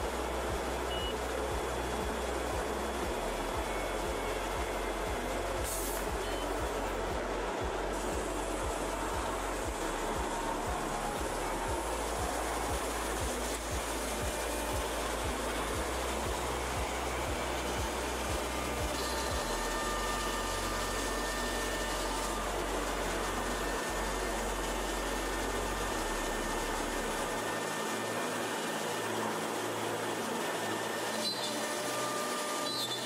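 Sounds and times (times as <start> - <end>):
cnc router cutting wood: 0.0 - 33.0.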